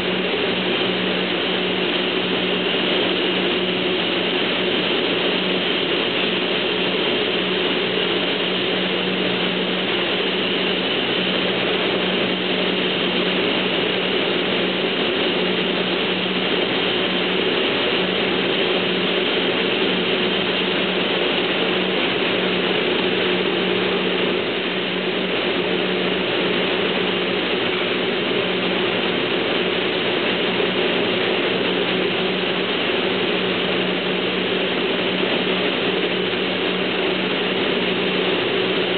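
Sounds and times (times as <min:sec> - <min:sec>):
low hum: 0:00.0 - 0:38.9
machine drone: 0:00.0 - 0:38.9.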